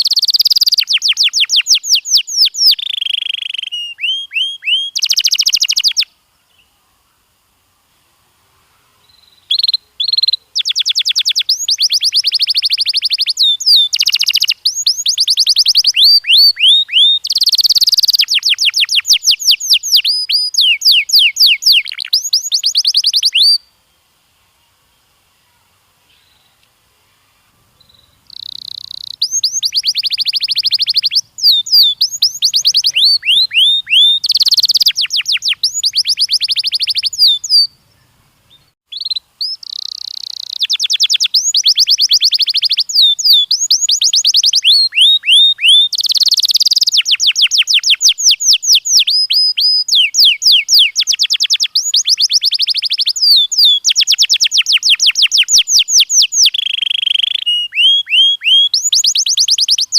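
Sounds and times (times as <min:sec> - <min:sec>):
canary singing trills: 0:00.0 - 0:06.7, 0:09.0 - 0:23.7, 0:27.7 - 0:59.9.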